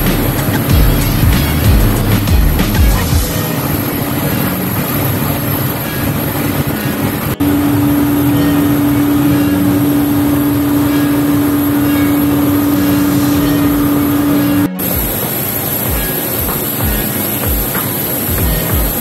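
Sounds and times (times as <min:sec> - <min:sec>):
air-conditioning cart running: 0:00.0 - 0:19.0
steady hum: 0:00.0 - 0:19.0.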